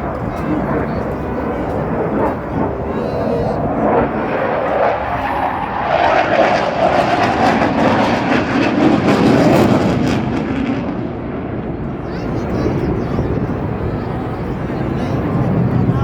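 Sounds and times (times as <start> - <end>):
jet engines roaring past: 0.0 - 16.0.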